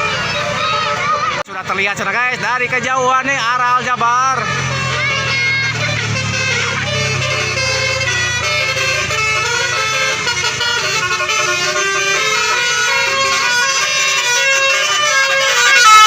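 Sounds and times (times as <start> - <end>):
musical bus horn: 0.0 - 1.4, 3.5 - 16.0
bus engine rumble: 0.0 - 16.0.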